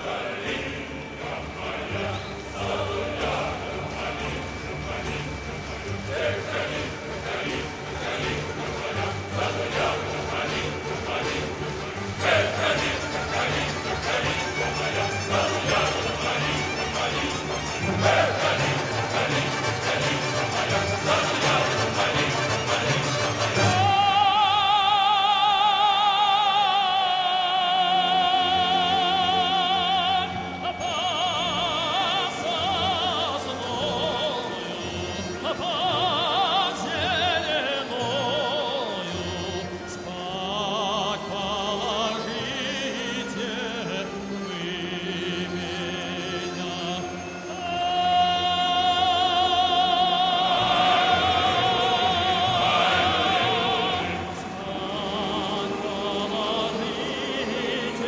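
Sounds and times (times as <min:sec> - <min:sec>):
operatic singing: 0:00.0 - 0:58.0.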